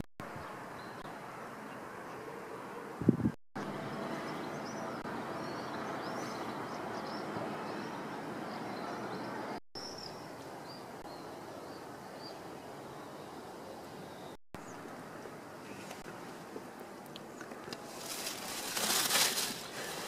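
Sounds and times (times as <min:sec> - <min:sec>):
small birds chirping: 0:00.2 - 0:02.7, 0:03.6 - 0:20.0.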